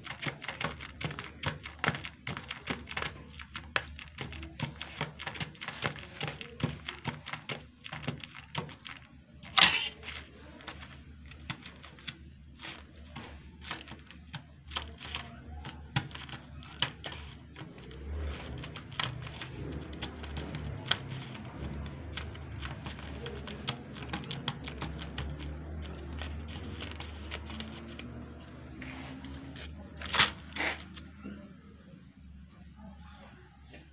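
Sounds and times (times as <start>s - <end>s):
spoon scraping and crunching frost: 0.0s - 31.4s.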